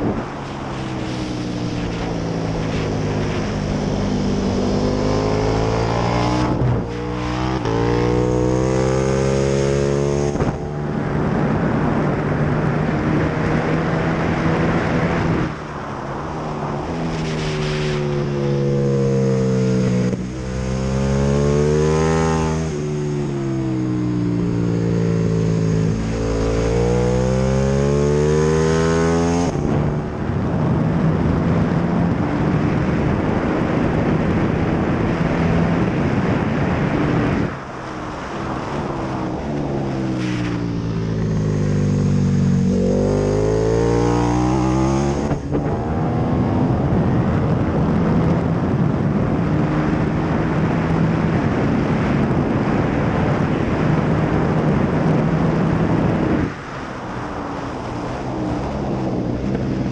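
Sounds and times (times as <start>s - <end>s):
motorcycle engine revving: 0.0s - 15.5s, 16.7s - 59.9s
wind rushing: 0.0s - 59.9s.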